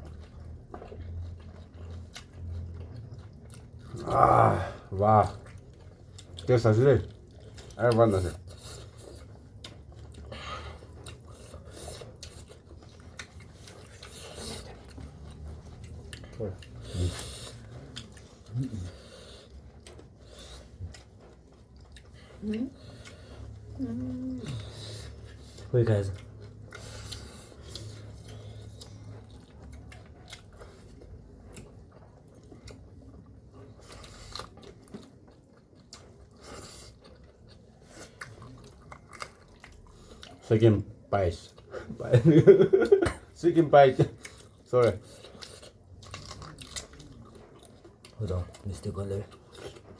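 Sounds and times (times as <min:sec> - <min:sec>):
chewing food: 0:00.0 - 0:49.9.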